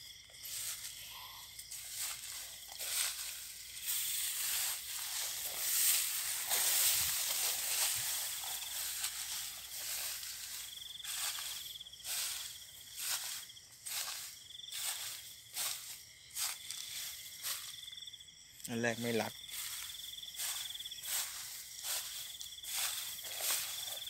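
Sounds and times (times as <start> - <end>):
rice stalks rustling: 0.0 - 17.9, 19.0 - 24.0
footsteps through vegetation: 0.0 - 24.0
insect trilling: 0.0 - 24.0.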